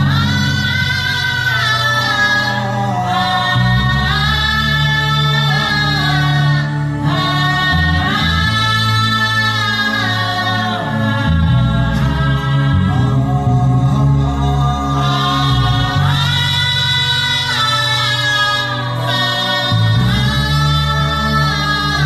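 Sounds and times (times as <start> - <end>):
person humming long melodic notes: 0.0 - 22.0.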